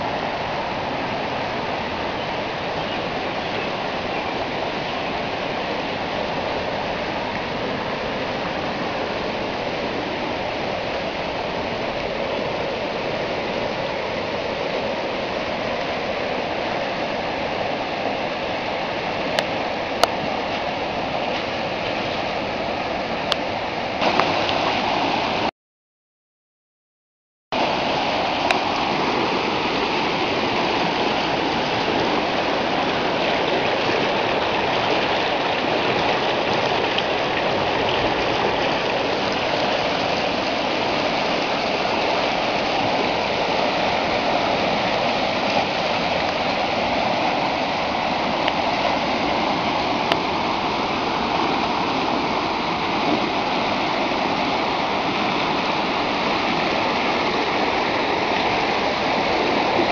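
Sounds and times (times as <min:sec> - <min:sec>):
floodwater rushing: 0:00.0 - 0:25.5, 0:27.6 - 0:59.9.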